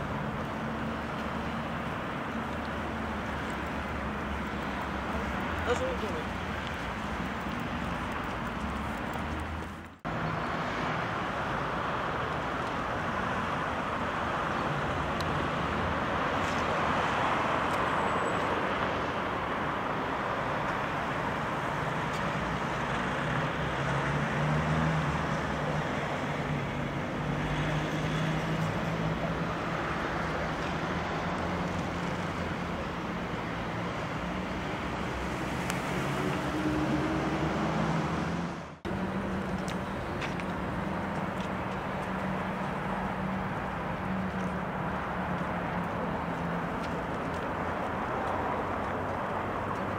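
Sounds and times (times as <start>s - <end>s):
road traffic noise: 0.0s - 49.9s.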